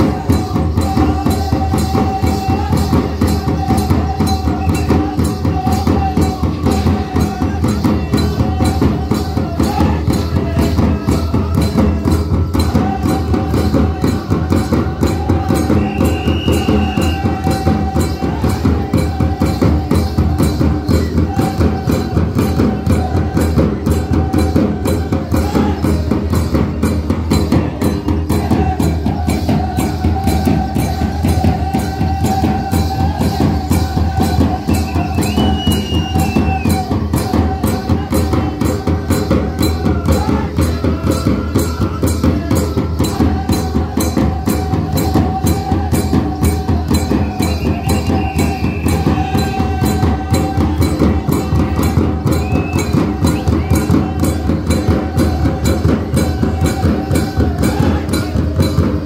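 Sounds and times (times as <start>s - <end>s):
quick steady drumbeat: 0.0s - 59.0s.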